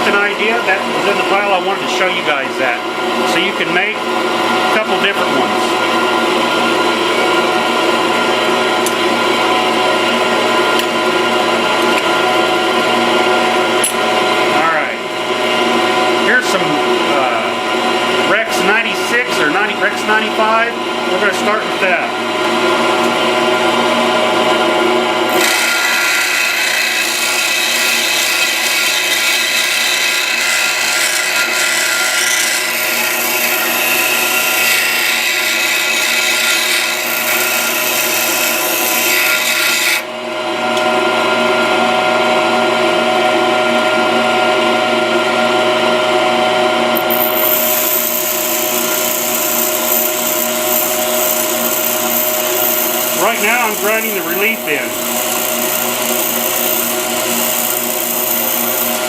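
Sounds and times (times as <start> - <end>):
grinder motor hum: 0.0 - 59.0.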